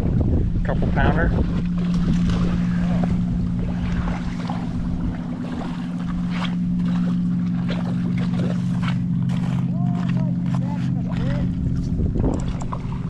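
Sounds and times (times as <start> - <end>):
motorboat engine humming: 0.0 - 13.0.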